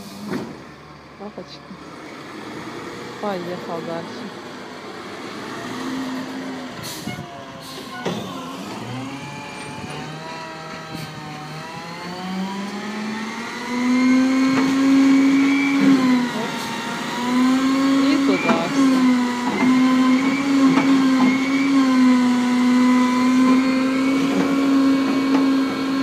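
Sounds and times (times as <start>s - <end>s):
garbage truck engine and hydraulics: 0.0s - 26.0s.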